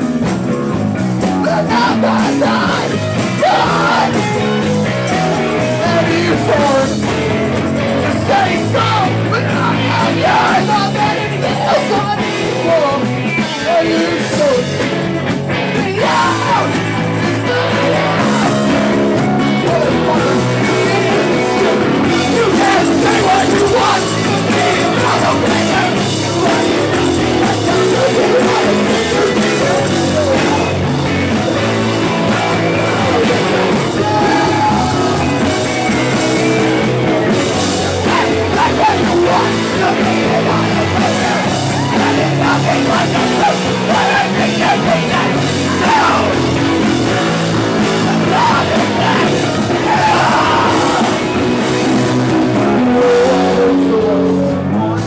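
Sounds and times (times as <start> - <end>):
live rock band playing: 0.0 - 55.0
singer yelling: 1.0 - 15.0, 15.6 - 55.0.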